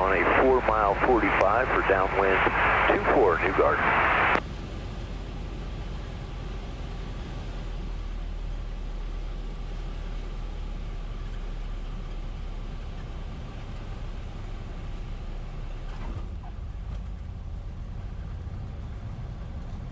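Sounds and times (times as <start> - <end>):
airplane engine drone in cockpit: 0.0 - 19.9.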